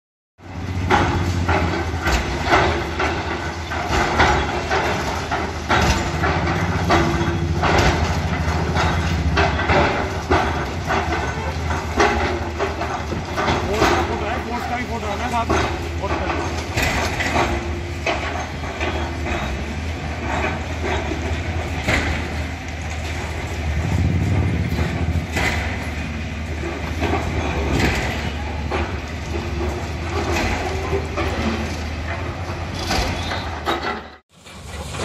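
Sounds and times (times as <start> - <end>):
diesel excavator engines running: 0.4 - 35.0.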